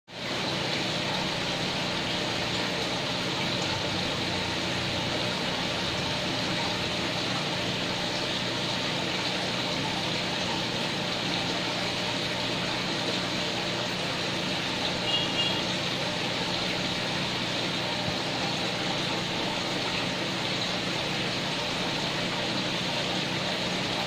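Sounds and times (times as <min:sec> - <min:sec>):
machine hum: 0:00.1 - 0:24.0.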